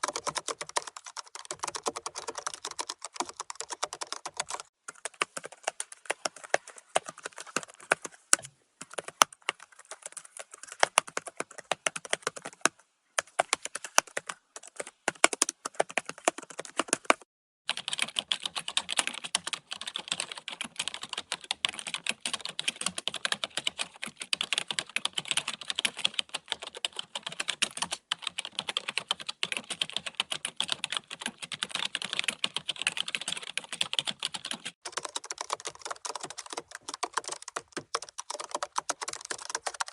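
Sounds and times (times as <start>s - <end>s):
computer keyboard typing: 0.0s - 8.1s, 8.8s - 39.9s.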